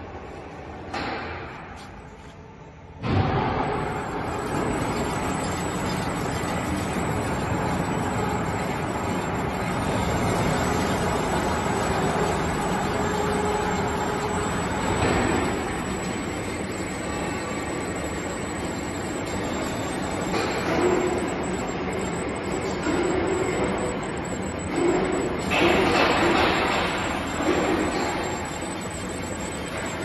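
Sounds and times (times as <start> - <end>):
machine humming and rumbling: 0.0 - 30.0.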